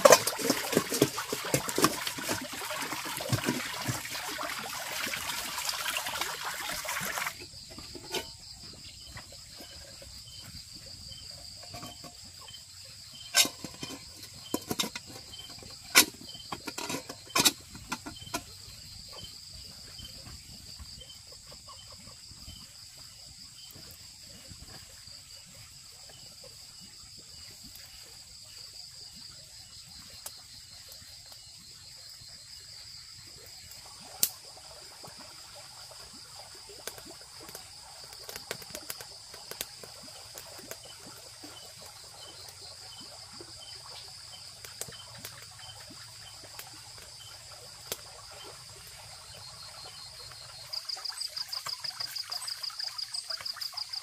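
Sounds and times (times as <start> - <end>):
insect chorus trilling: 0.0 - 21.6, 22.2 - 54.0.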